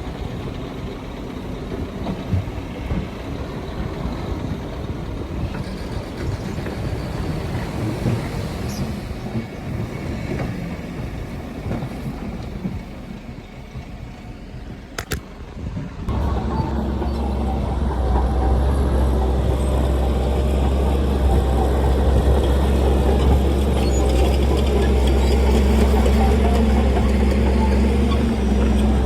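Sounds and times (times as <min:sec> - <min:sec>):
diesel machinery rumbling: 0:00.0 - 0:29.0.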